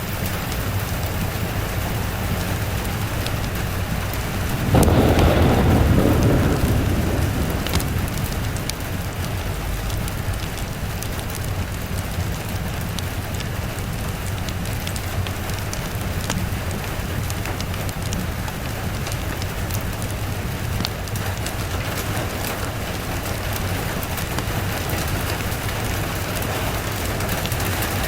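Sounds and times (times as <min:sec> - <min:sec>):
steady rain: 0:00.0 - 0:28.0
sharp crackles: 0:00.1 - 0:28.0
thunder rumbling: 0:00.6 - 0:28.0.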